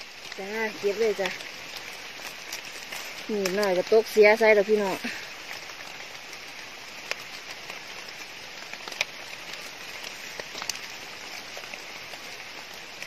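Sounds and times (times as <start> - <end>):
light rain on leaves: 0.0 - 13.0.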